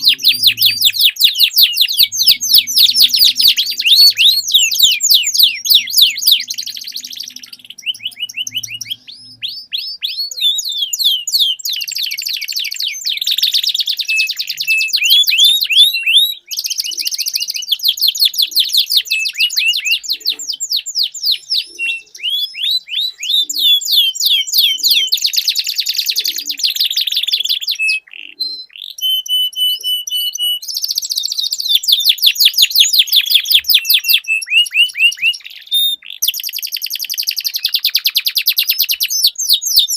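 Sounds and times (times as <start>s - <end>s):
canaries singing rolling trills: 0.0s - 39.9s.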